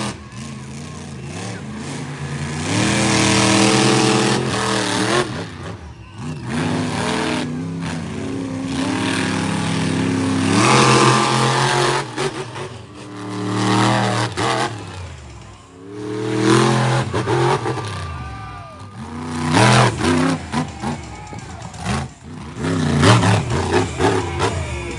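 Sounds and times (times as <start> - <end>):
monster truck engine revving: 0.0 - 24.9.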